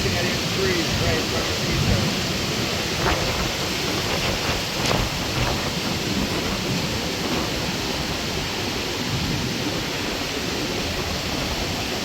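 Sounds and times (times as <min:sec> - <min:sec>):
rough sea: 0:00.0 - 0:12.0
strong wind on microphone: 0:00.0 - 0:12.0.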